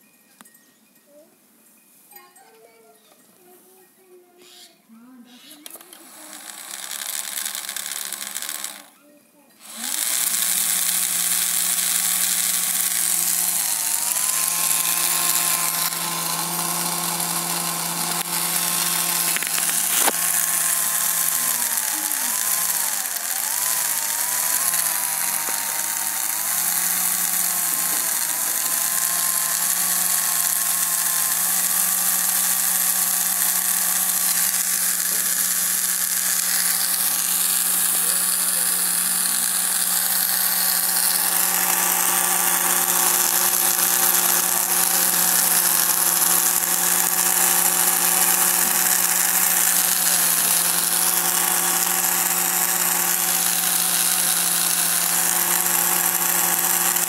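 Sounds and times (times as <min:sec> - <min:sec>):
model truck motor whine: 0:05.6 - 0:08.9, 0:09.6 - 0:57.0.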